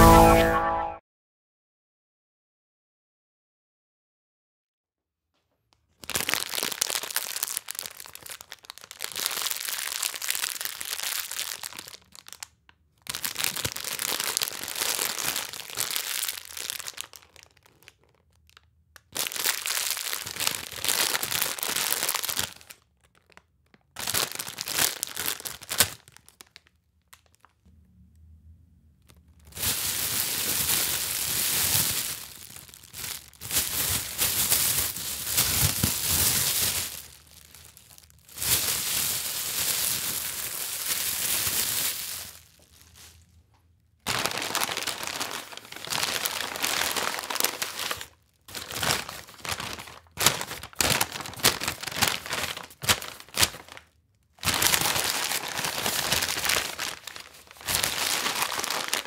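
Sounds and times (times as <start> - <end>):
bags crinkling and rustling: 6.0 - 18.2, 19.2 - 27.6, 29.4 - 43.3, 44.1 - 59.0.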